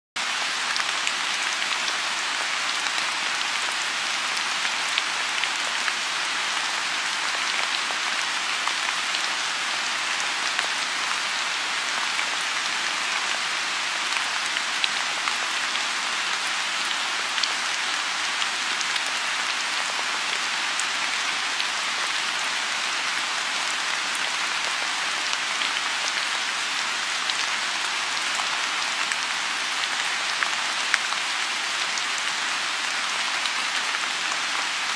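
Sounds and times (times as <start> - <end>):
rain falling on a pond: 0.2 - 34.9.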